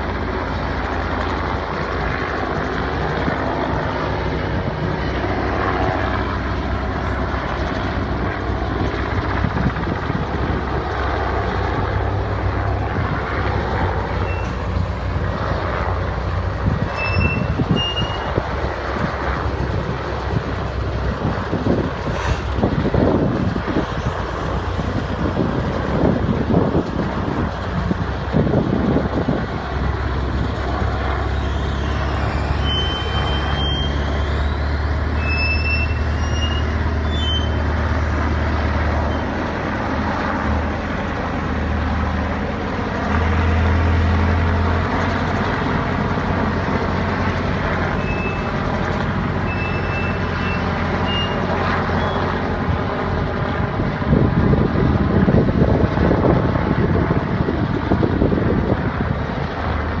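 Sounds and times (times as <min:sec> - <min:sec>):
helicopters flying overhead: 0:00.0 - 1:00.0
low rotor and engine drone: 0:00.0 - 1:00.0.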